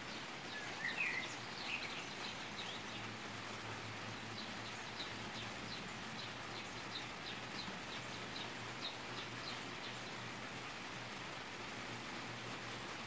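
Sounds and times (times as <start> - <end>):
rain shower hissing: 0.0 - 13.0.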